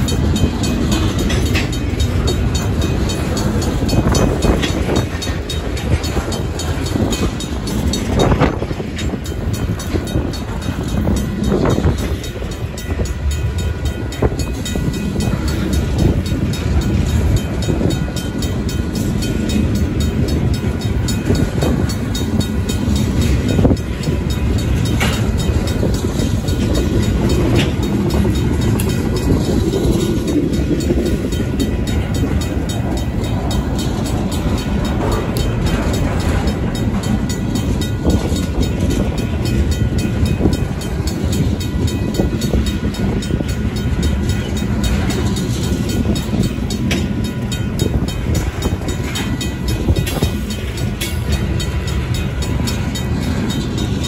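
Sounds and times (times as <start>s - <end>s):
crossing bell ringing: 0.0s - 54.0s
train wheels rumbling on rails: 0.0s - 54.0s.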